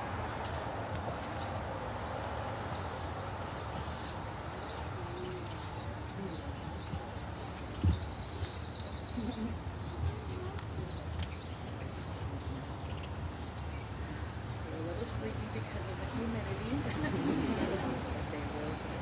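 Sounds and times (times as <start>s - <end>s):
outdoor murmur with faint voices: 0.0s - 19.0s.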